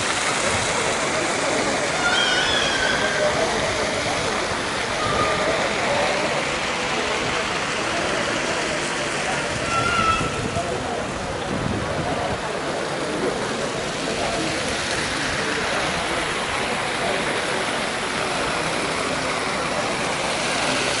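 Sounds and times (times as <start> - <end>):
faint voices: 0.0 - 21.0
rushing water: 0.0 - 21.0.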